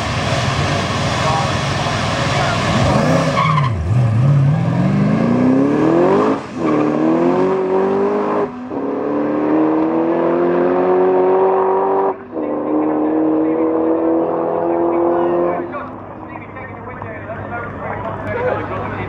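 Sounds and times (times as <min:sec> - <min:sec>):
race car engines accelerating: 0:00.0 - 0:19.0.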